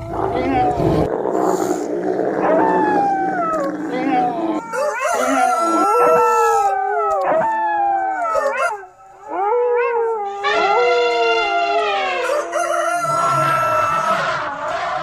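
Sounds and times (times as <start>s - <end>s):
dogs howling: 0.0s - 15.0s.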